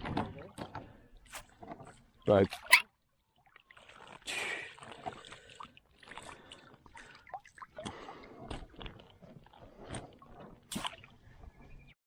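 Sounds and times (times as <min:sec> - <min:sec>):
water splashing around a kayak: 0:00.0 - 0:11.7.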